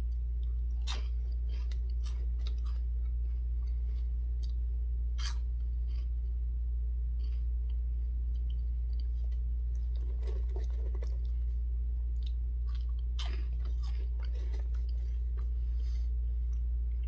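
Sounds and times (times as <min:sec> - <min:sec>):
crunchy chewing: 0:00.0 - 0:06.5, 0:07.1 - 0:17.0
steady low hum: 0:00.0 - 0:17.0.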